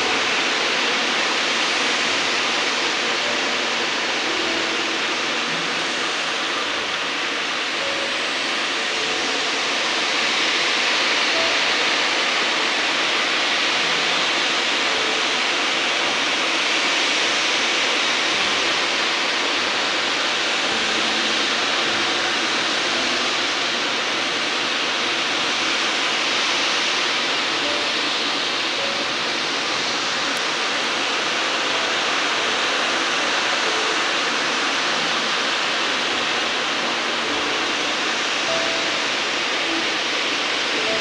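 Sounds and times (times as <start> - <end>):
steady rushing hiss: 0.0 - 41.0.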